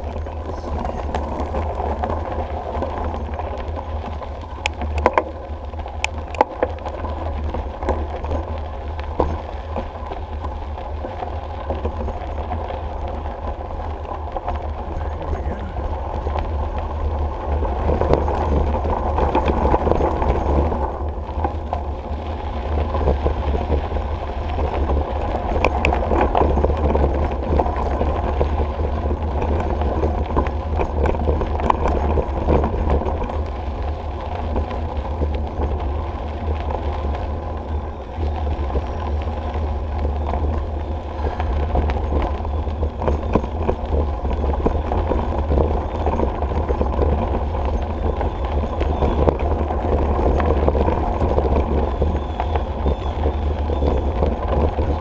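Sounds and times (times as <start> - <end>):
bicycle tyres crunching on gravel: 0.0 - 55.0
bike clicks and rattles: 0.0 - 55.0
wind rumble on microphone: 0.0 - 55.0.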